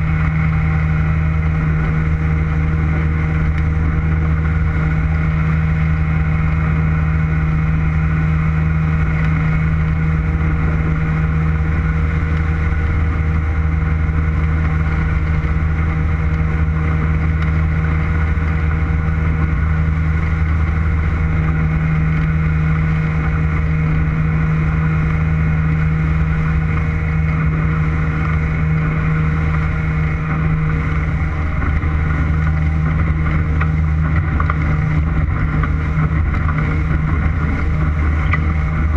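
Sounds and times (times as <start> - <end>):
motorboat engine droning: 0.0 - 38.9.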